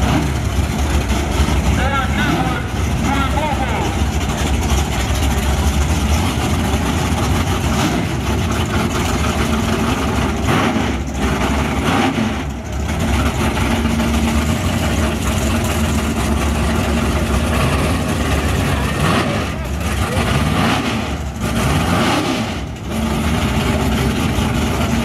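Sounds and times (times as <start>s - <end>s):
drag car engine idling loudly: 0.0s - 25.0s.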